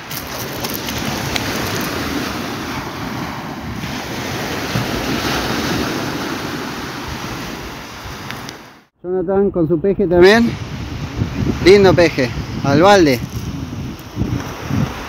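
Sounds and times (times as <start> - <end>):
wind buffeting microphone: 0.0 - 8.7, 9.4 - 15.0
surf washing on beach: 0.0 - 8.9, 10.3 - 15.0.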